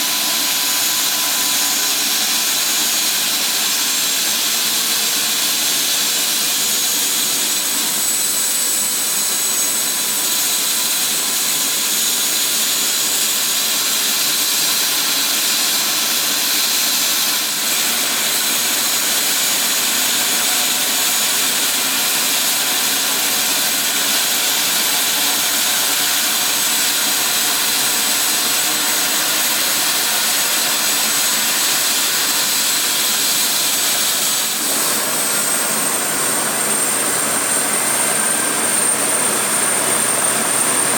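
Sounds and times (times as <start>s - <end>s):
helicopter turbine whine: 0.0s - 40.9s.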